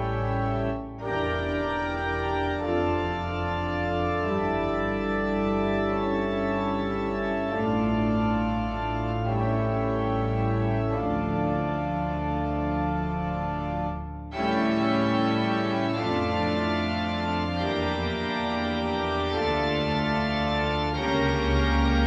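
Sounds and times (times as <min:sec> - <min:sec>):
church organ playing chords: 0:00.0 - 0:22.0.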